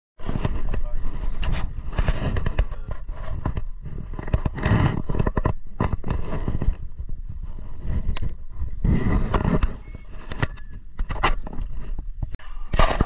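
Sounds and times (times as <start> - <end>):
sharp clicks and crackles: 0.4 - 13.0.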